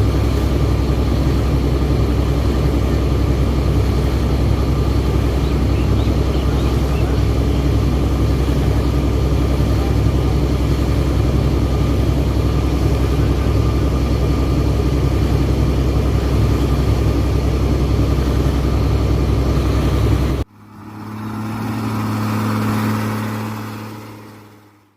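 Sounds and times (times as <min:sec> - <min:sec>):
air compressor droning: 0:00.0 - 0:24.8
low steady hum: 0:00.0 - 0:24.8.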